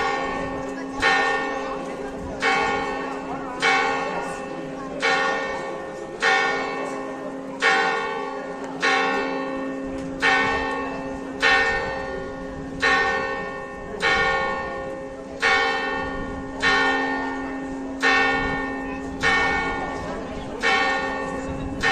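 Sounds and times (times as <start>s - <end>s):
large church bell tolling: 0.0s - 21.9s.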